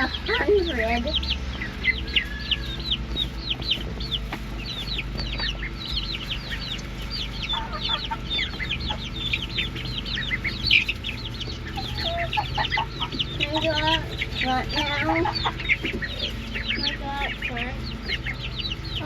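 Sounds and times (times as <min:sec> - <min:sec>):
chickens clucking: 0:00.0 - 0:19.0
chickens peeping and chirping: 0:00.0 - 0:19.0
steady low hum: 0:00.0 - 0:19.0.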